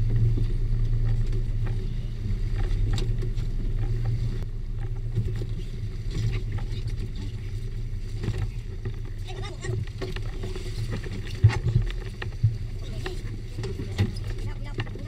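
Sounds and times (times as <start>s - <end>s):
boat engine humming: 0.0s - 15.0s
fish thrashing with knocks and splashes: 0.0s - 15.0s.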